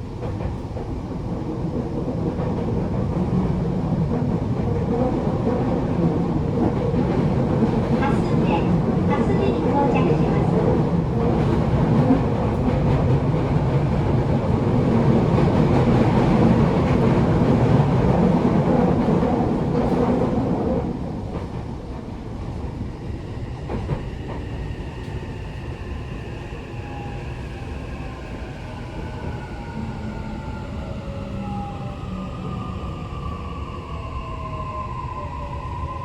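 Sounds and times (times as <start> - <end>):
train wheels rumbling on rail: 0.0 - 35.8.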